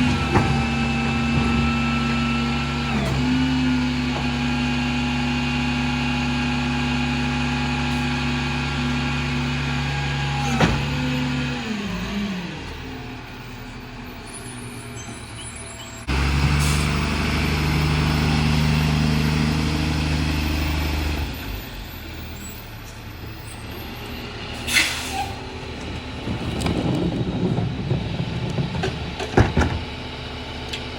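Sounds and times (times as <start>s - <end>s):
diesel truck engine revving: 0.0s - 30.9s.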